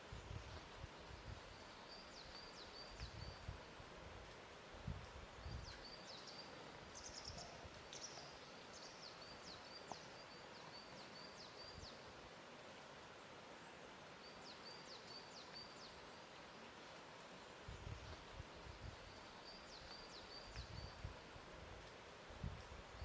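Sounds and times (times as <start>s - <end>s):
soft steady hiss: 0.0s - 23.0s.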